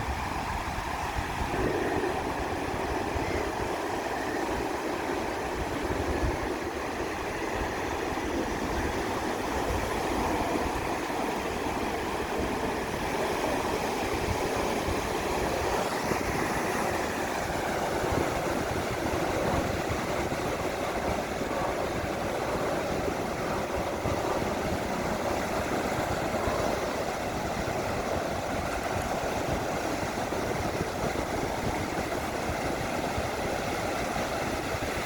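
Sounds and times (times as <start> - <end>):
ocean waves washing on beach: 0.0 - 35.0.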